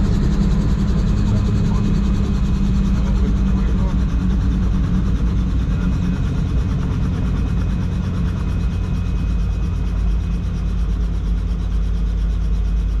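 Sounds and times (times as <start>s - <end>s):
helicopter cabin rumble: 0.0s - 13.0s.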